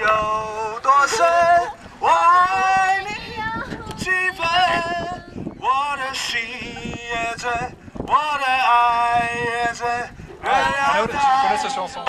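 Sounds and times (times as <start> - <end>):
man singing through a megaphone: 0.0 - 12.0
wind on microphone: 0.0 - 12.0.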